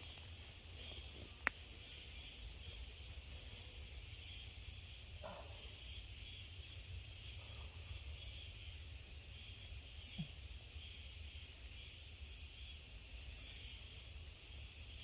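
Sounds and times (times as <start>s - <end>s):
high insect chorus: 0.0s - 15.0s.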